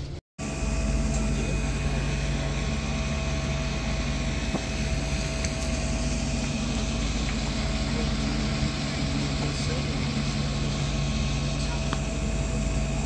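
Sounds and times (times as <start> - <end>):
ship engines droning: 0.0 - 13.0
steady hum: 0.0 - 13.0.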